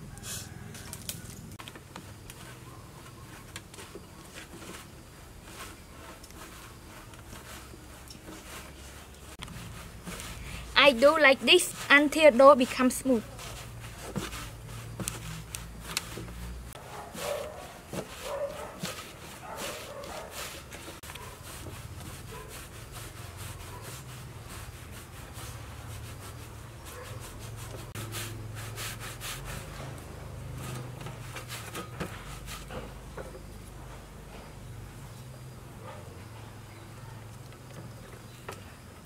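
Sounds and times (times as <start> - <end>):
hands kneading dough: 0.8 - 33.6.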